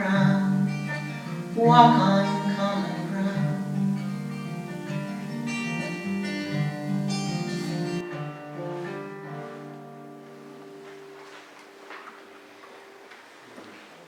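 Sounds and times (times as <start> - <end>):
acoustic guitar playing: 0.0 - 13.4.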